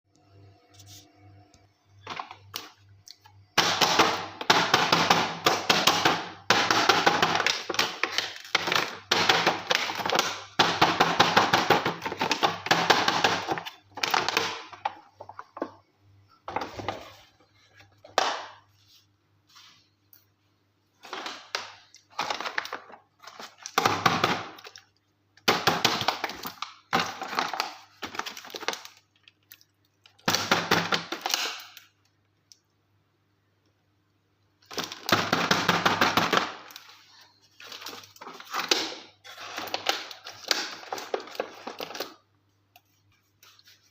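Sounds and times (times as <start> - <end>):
plastic wrap crinkling: 6.0 - 32.0, 34.6 - 43.9.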